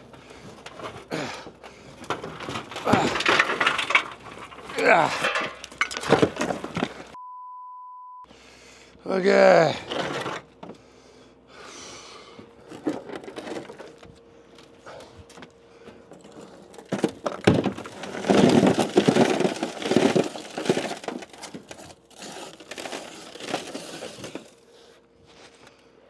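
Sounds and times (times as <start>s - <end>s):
rubble crunching and clattering: 0.0s - 7.2s, 9.6s - 10.9s, 12.3s - 25.8s.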